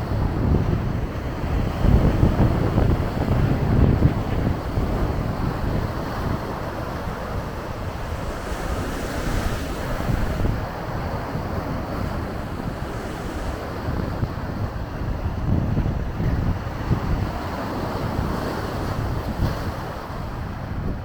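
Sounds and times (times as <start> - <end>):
waves breaking on shore: 0.0 - 21.0
wind buffeting microphone: 0.0 - 21.0.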